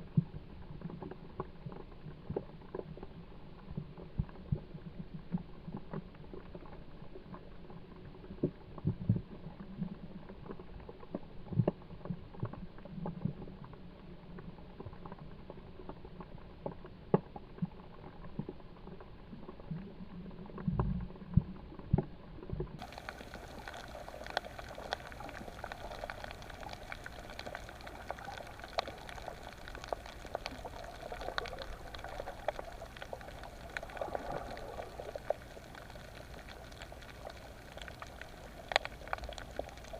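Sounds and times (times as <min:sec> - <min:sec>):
underwater bubbling and clicks: 0:00.0 - 0:39.9.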